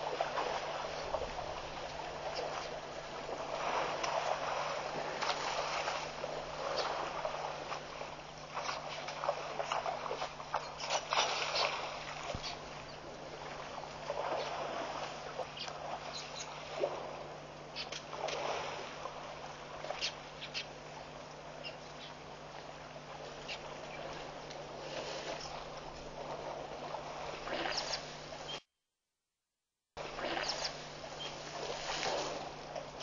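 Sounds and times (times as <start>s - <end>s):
steady low hum: 0.0s - 28.7s, 30.0s - 33.0s.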